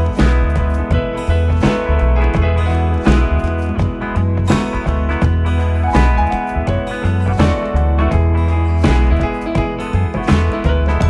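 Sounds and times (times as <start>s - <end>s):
music with strong bass and beat: 0.0s - 11.0s.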